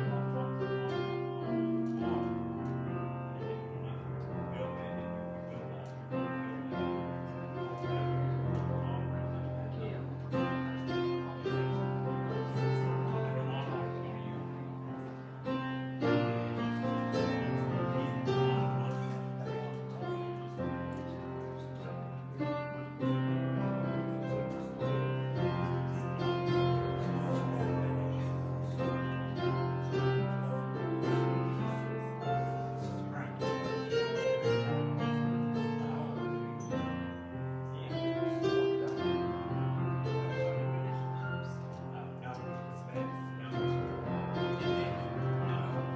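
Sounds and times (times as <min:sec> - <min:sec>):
piano chords: 0:00.0 - 0:45.9.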